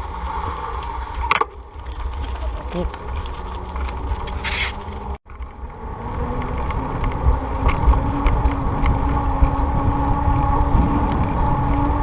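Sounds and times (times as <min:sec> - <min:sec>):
road and tyre noise: 0:00.0 - 0:12.0
wind rushing over microphone: 0:00.0 - 0:12.0.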